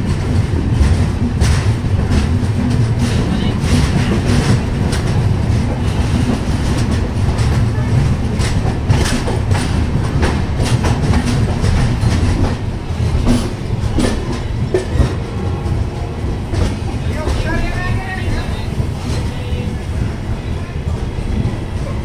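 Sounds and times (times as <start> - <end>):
train wheels clattering on track: 0.0 - 22.0.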